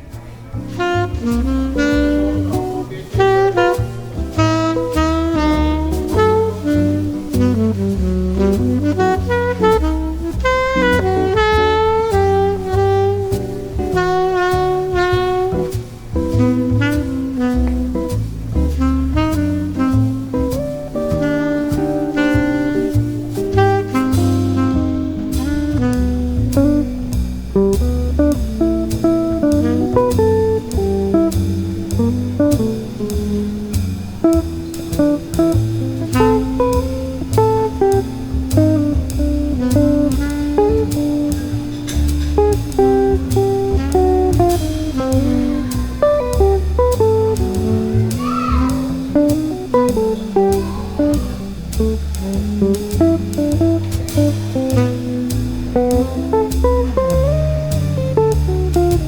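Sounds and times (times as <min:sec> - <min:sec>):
drum kit: 0:00.0 - 0:59.0
plucked guitar: 0:00.0 - 0:59.0
steady beat: 0:00.0 - 0:59.0
walking bass line: 0:00.0 - 0:59.0.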